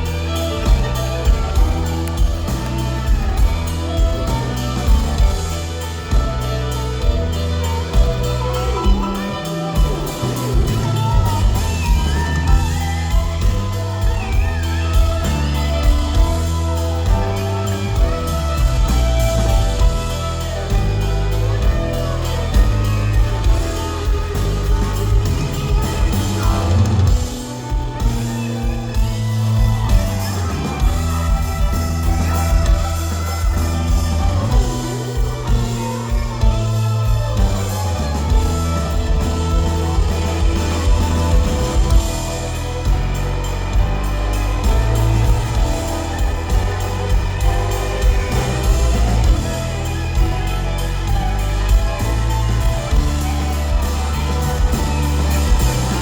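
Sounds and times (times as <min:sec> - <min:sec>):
country band playing: 0:00.0 - 0:56.0.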